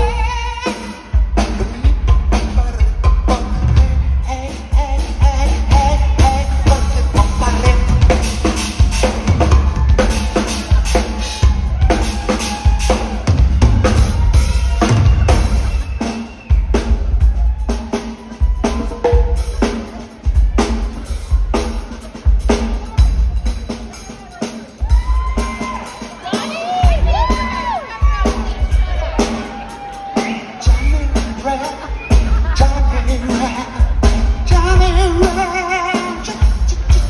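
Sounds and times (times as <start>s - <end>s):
rock drum solo: 0.0s - 37.0s.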